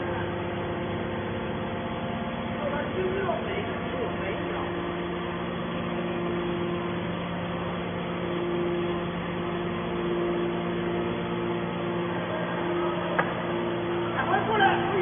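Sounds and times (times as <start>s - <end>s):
motor and pump humming: 0.0s - 15.0s.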